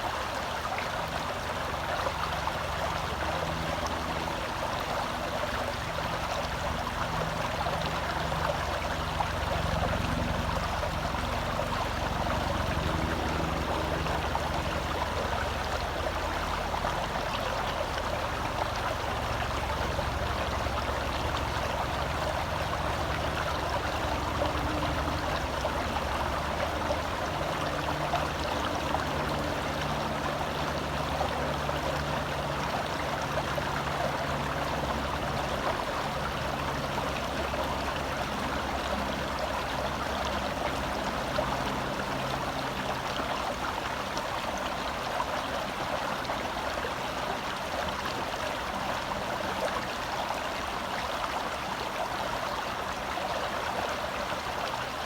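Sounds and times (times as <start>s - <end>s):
stream gurgling over rocks: 0.0s - 55.0s.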